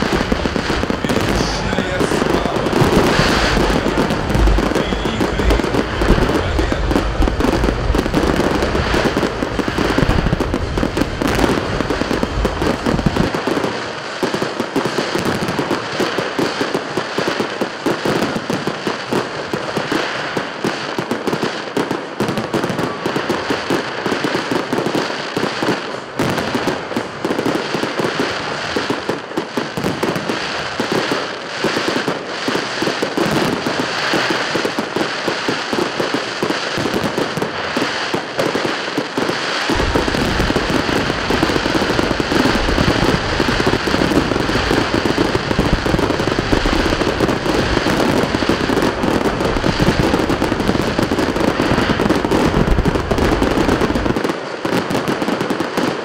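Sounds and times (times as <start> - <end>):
deep fireworks booms: 0.0 - 56.0
fireworks crackling and popping: 0.0 - 56.0.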